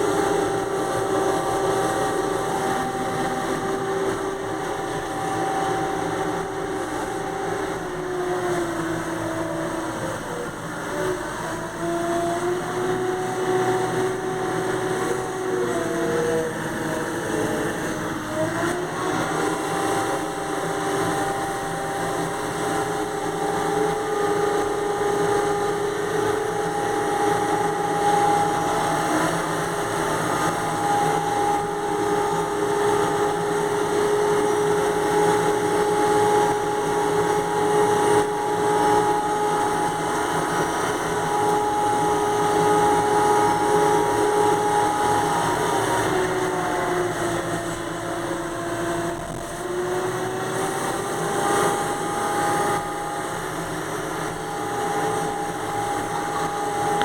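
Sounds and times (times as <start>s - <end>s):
vehicle engine humming: 0.0s - 57.0s.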